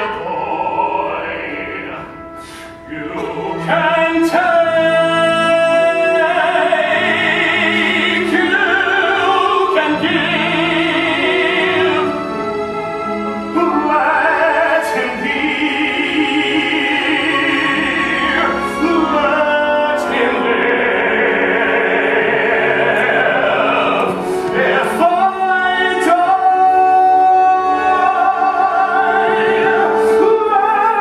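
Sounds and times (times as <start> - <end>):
man singing operatically: 0.0 - 12.4, 13.5 - 31.0
instrumental accompaniment: 0.0 - 31.0.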